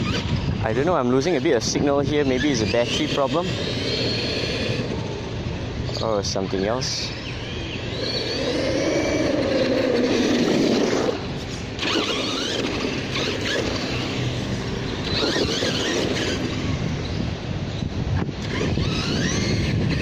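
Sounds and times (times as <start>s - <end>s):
rc truck electric motor whining: 0.0s - 17.8s, 18.4s - 20.0s.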